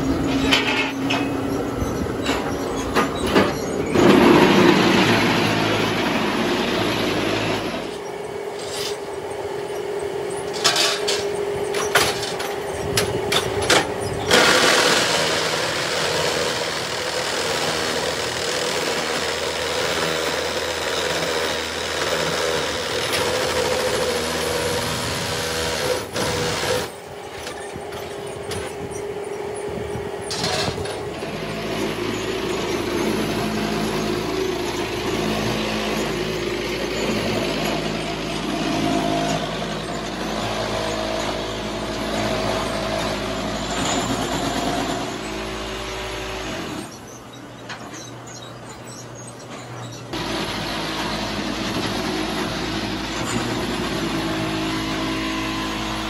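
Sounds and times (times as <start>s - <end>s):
block-making machine motor hum: 0.0s - 56.0s.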